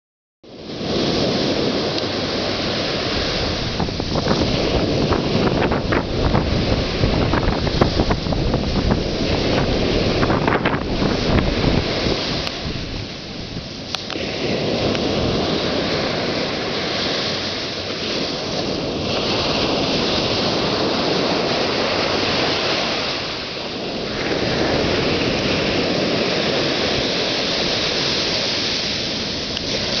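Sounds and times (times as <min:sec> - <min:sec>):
waves breaking on beach: 0:00.5 - 0:30.0
wind buffeting microphone: 0:00.6 - 0:30.0.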